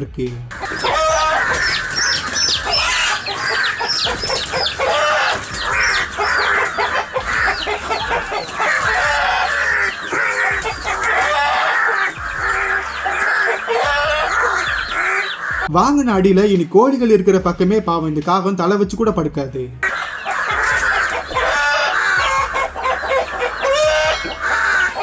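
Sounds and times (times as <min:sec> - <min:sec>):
chicks peeping: 0:00.5 - 0:15.7, 0:19.8 - 0:25.0
hen clucking and squawking: 0:00.5 - 0:15.7, 0:19.8 - 0:25.0.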